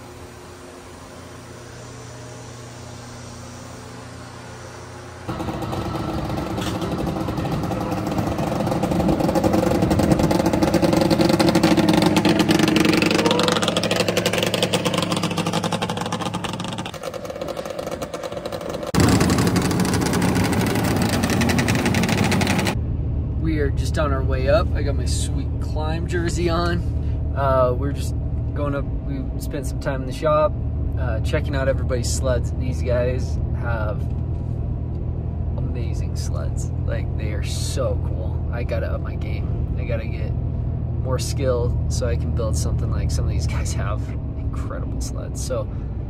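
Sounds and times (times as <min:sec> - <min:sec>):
snowmobile engines idling and revving: 0:00.0 - 0:46.0
steady low hum: 0:00.0 - 0:46.0.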